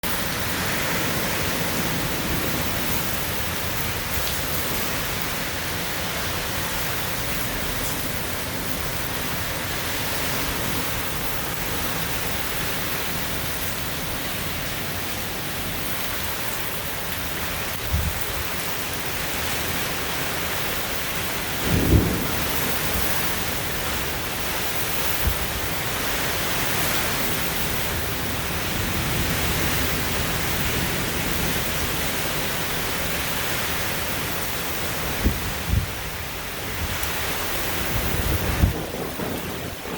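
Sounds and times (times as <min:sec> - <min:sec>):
heavy rain: 0:00.0 - 0:39.9
strong wind: 0:00.0 - 0:39.9.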